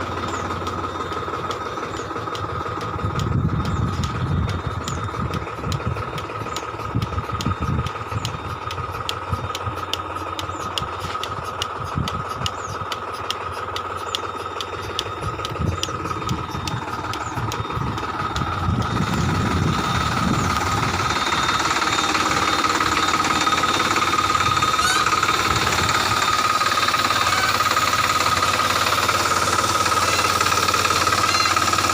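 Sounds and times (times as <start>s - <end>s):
milking machine engine drone: 0.0s - 31.9s
regular ticking: 0.0s - 31.9s.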